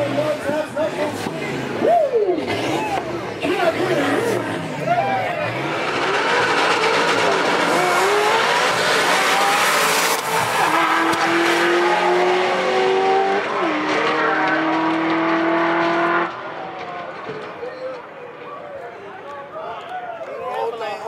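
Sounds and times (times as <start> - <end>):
drag racing engines screaming: 0.0 - 18.6
tire noise: 0.0 - 21.0.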